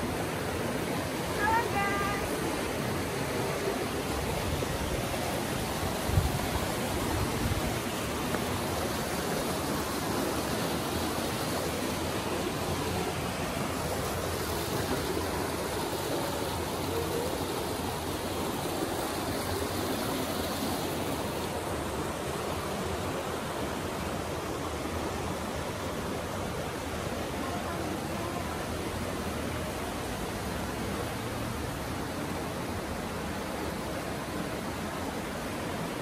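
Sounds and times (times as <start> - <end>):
river flowing over stones: 0.0 - 36.0.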